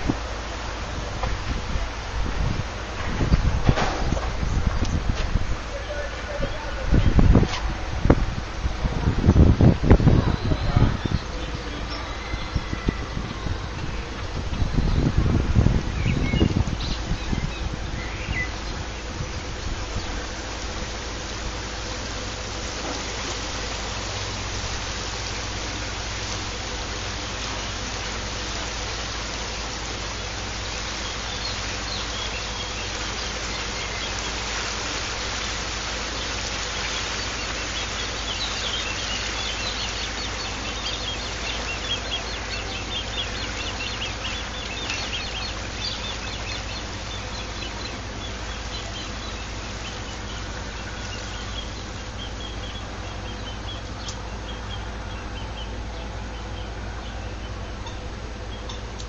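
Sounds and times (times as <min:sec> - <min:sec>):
low even hum: 0:00.0 - 0:59.0
water: 0:00.0 - 0:59.0
wind: 0:00.0 - 0:59.0.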